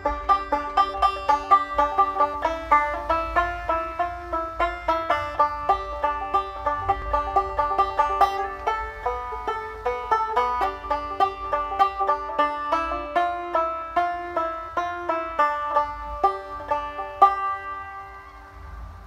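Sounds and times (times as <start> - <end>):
banjo playing: 0.0 - 19.0.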